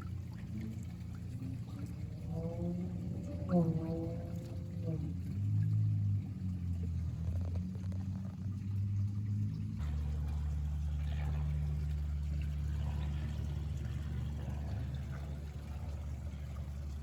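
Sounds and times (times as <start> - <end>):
steady low rumble: 0.0 - 17.0
water splashing and trickling: 0.0 - 17.0.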